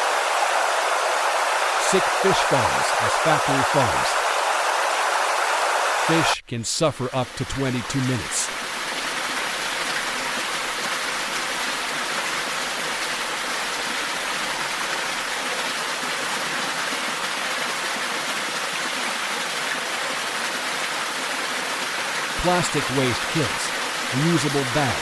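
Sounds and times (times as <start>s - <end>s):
running water rushing: 0.0s - 6.3s, 7.2s - 25.0s.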